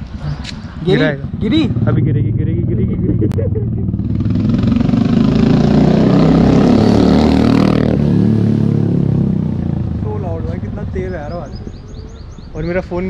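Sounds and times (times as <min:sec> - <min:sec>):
motorcycle engine accelerating: 0:00.1 - 0:13.0.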